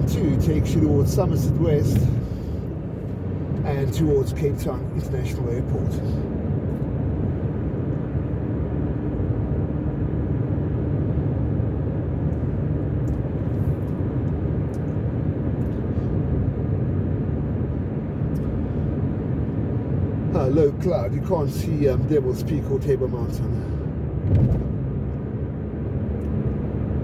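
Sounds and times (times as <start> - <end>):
car road noise from cabin: 0.0 - 27.0.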